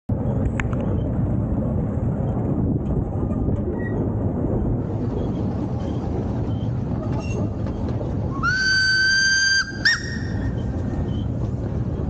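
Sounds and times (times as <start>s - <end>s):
train carriages rumbling on track: 0.1s - 12.0s.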